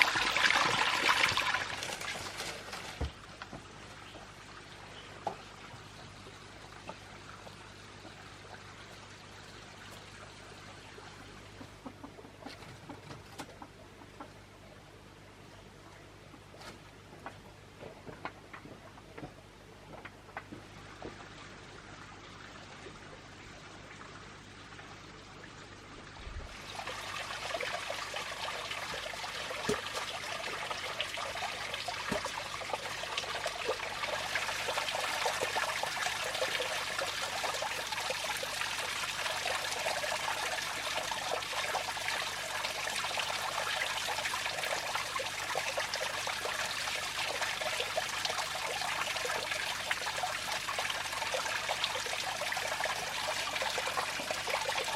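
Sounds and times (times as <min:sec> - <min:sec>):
water trickling: 0:00.0 - 0:11.5, 0:20.8 - 0:54.9.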